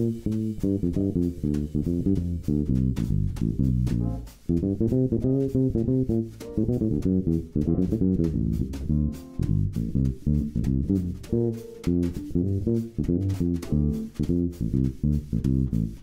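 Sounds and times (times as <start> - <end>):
plucked bass and guitar music: 0.0 - 16.0.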